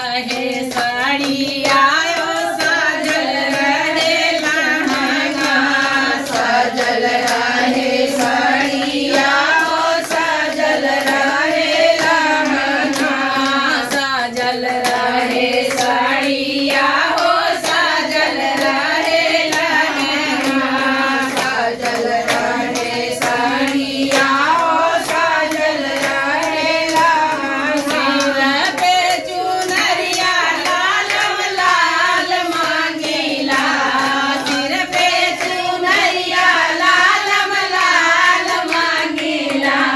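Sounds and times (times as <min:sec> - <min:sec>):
hand claps: 0:00.0 - 0:39.9
women singing together: 0:00.0 - 0:39.9.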